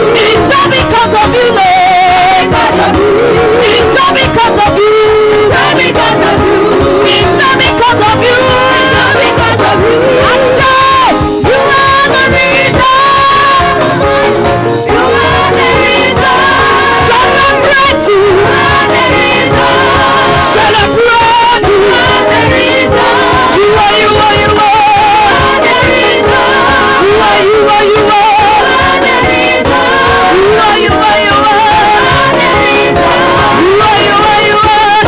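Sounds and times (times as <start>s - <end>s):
full band playing: 0.0s - 35.0s
other voices singing: 0.0s - 35.0s
person singing praise song: 0.0s - 35.0s.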